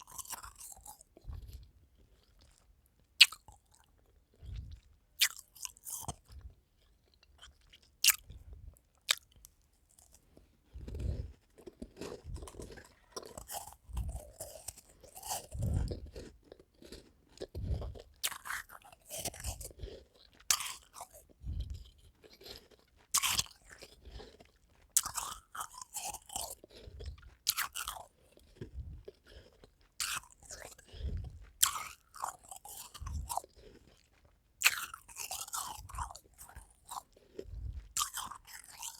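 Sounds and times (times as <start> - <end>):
dull chewing thuds: 0.0 - 38.9
ice crunching while chewing: 0.0 - 38.9.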